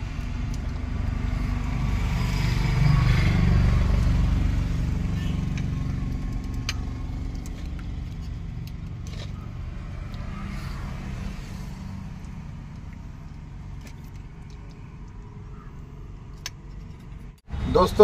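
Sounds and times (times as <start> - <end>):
low vehicle rumble: 0.0 - 18.0.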